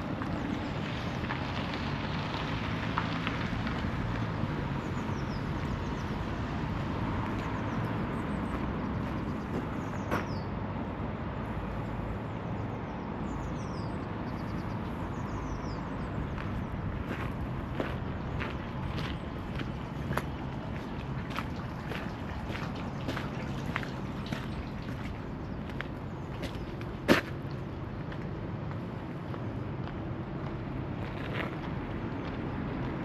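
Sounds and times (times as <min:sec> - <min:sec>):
street traffic noise: 0:00.0 - 0:33.0.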